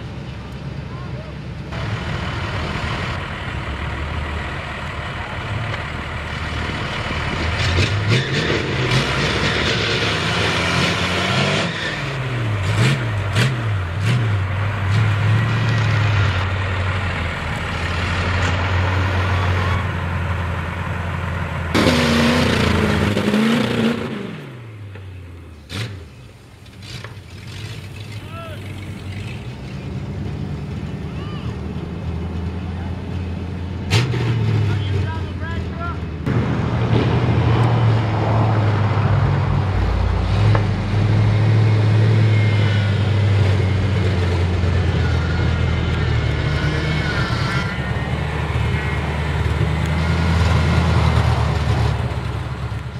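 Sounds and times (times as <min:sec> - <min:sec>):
truck engine revving: 0:01.4 - 0:52.9.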